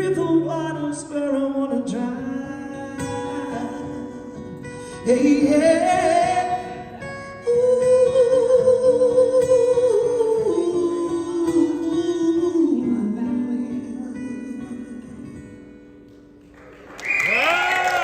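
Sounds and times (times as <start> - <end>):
strummed acoustic guitar: 0.0 - 16.6.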